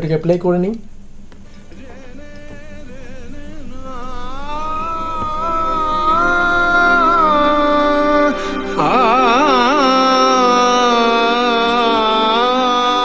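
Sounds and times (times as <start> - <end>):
steady drone: 0.0 - 13.0
classical vocal song on speaker: 1.3 - 13.0.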